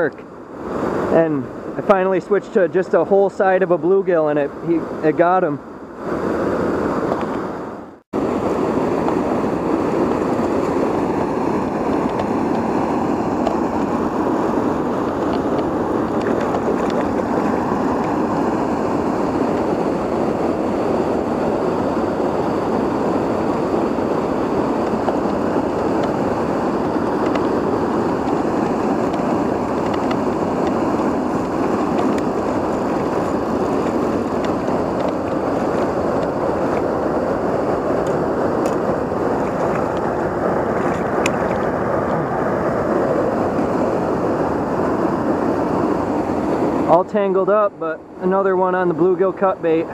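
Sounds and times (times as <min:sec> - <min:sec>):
river water rushing: 0:00.3 - 0:47.2.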